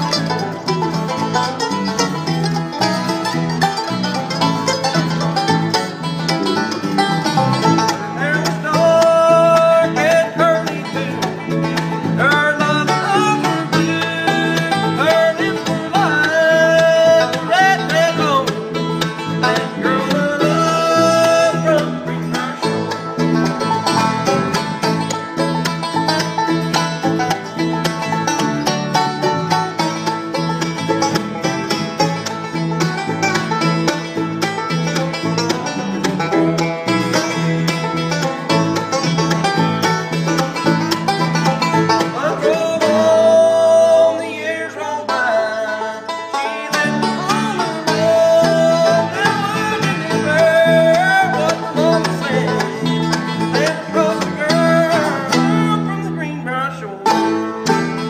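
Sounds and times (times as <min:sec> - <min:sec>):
acoustic guitar: 0:00.0 - 0:58.0
banjo: 0:00.0 - 0:58.0
bass: 0:00.0 - 0:58.0
mandolin: 0:00.0 - 0:58.0.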